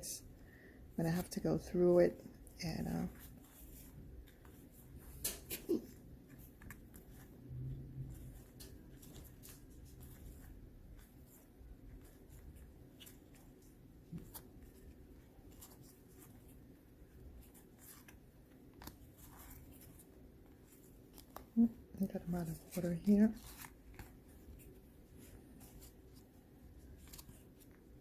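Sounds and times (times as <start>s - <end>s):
cards clicking and rubbing: 3.0s - 28.0s.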